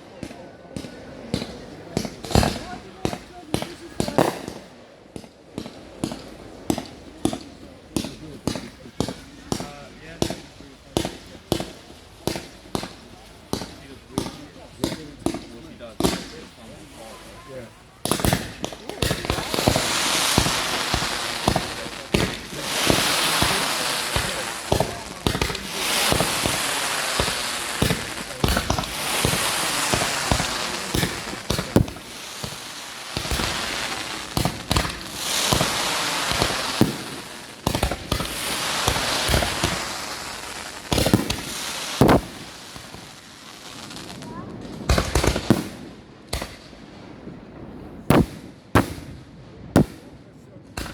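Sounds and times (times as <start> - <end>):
fireworks bangs and pops: 0.0 - 50.9
fireworks crackling hiss: 0.0 - 50.9.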